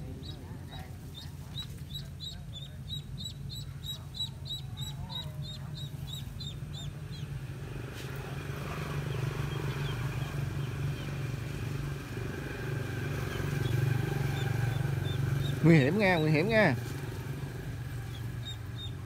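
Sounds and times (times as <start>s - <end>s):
duckling peeping: 0.0s - 7.4s, 9.0s - 11.8s, 13.1s - 17.0s, 17.6s - 19.0s.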